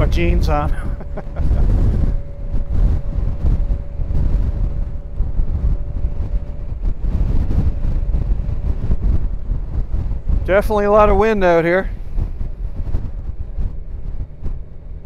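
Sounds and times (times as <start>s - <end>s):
faint steady whine: 0.0s - 15.0s
motorcycle engine and road noise: 0.0s - 15.0s
wind buffeting microphone: 0.0s - 15.0s.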